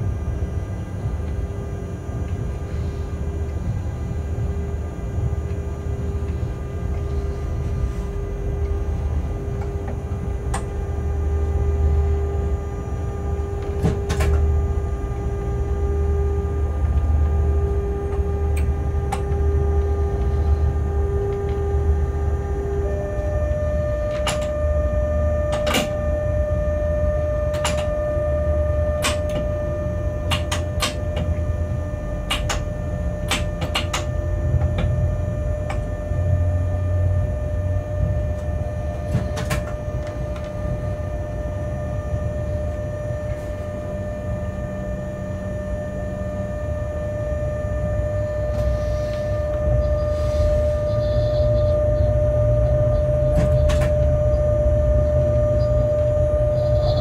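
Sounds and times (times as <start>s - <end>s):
locomotive cab rumble and whine: 0.0s - 57.0s.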